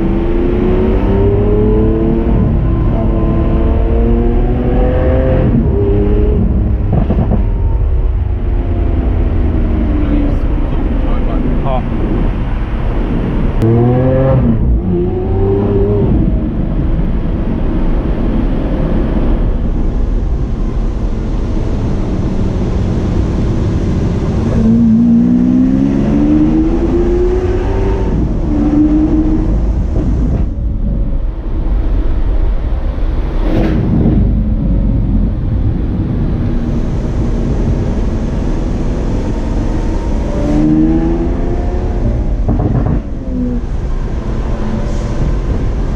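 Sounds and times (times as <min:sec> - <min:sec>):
car engine revving: 0:00.0 - 0:45.9
engine and road noise drone: 0:00.0 - 0:45.9.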